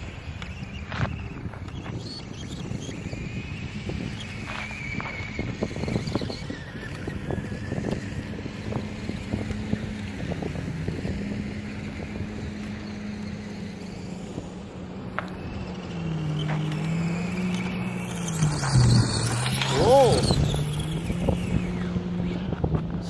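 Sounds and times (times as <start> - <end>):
wind on microphone: 0.0 - 16.3, 16.9 - 23.0
electric motor whining: 0.0 - 23.0.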